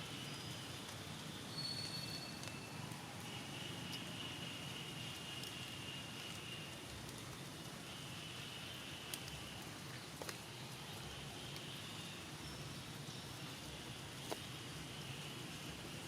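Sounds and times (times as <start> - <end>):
soft hiss: 0.0 - 16.0.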